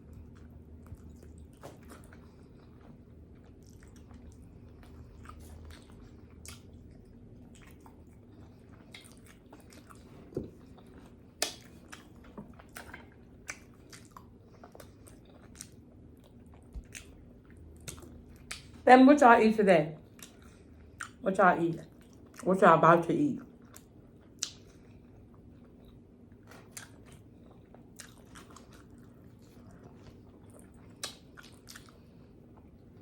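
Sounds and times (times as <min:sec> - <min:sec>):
person chewing food: 0:00.0 - 0:18.8, 0:20.0 - 0:21.2, 0:21.8 - 0:22.4, 0:23.4 - 0:33.0.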